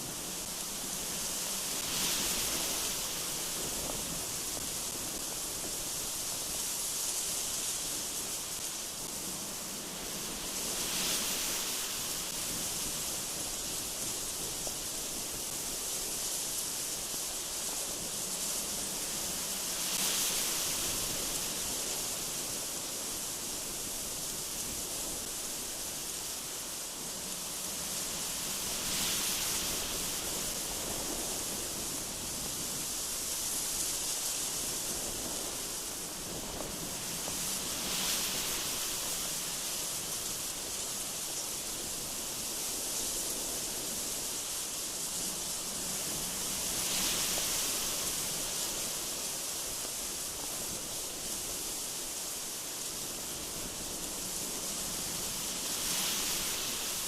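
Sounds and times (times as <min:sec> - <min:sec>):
gusty wind through trees: 0:00.0 - 0:57.0.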